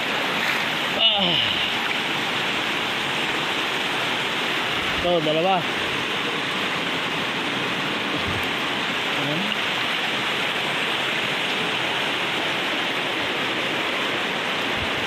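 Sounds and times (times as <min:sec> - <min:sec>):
river rushing in flood: 0:00.0 - 0:15.0.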